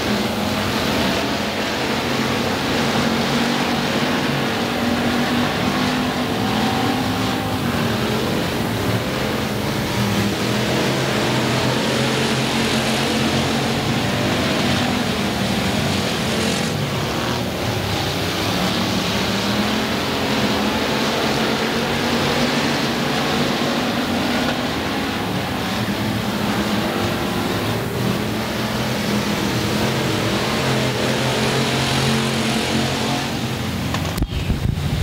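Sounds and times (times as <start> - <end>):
race car engines droning: 0.0 - 35.0.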